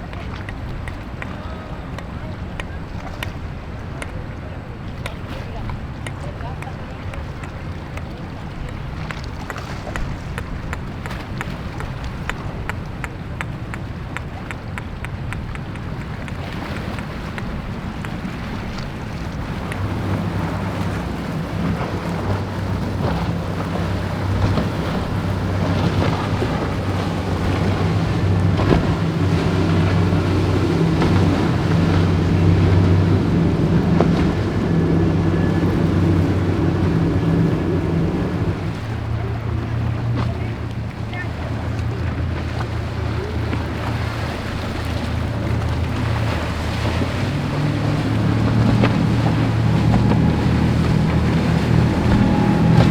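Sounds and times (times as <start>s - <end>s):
powerboat engine drone: 0.0s - 52.9s
sea waves washing: 0.0s - 52.9s
wind buffeting microphone: 0.0s - 52.9s.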